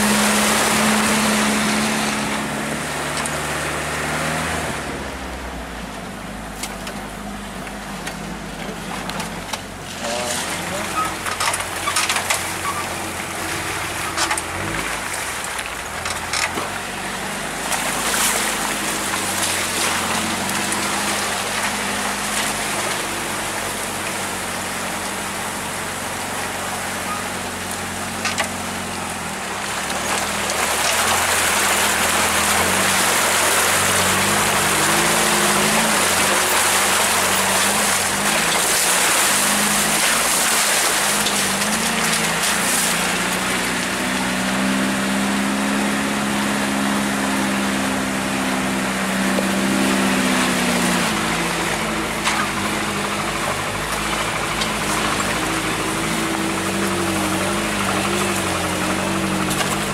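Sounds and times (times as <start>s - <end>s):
truck engine running: 0.0s - 59.9s
tyres splashing through mud: 0.0s - 59.9s.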